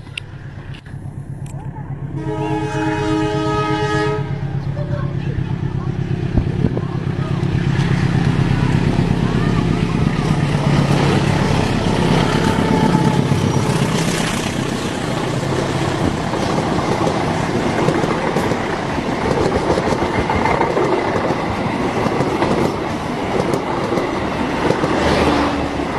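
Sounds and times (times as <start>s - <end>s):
train wheels clattering on rails: 4.5s - 25.9s.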